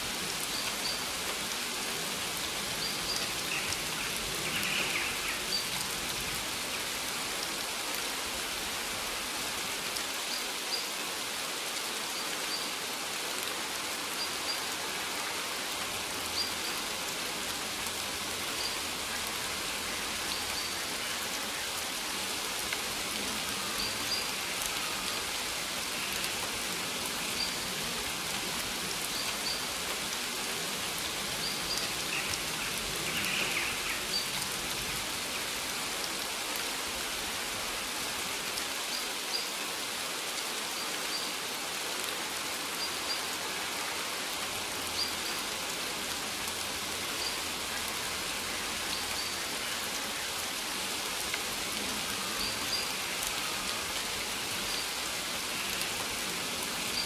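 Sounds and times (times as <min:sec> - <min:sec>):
rain pattering on plants: 0:00.0 - 0:57.0.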